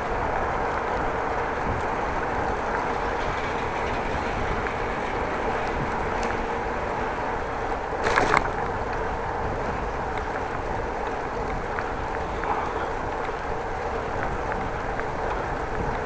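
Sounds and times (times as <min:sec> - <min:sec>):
bicycle tyre noise on path: 0:00.0 - 0:16.0
wind on microphone: 0:00.0 - 0:16.0.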